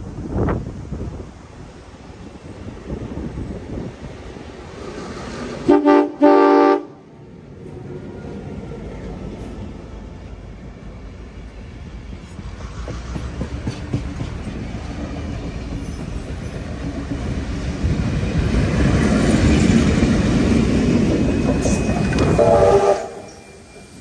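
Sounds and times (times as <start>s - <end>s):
steam locomotive passing: 0.0s - 24.0s.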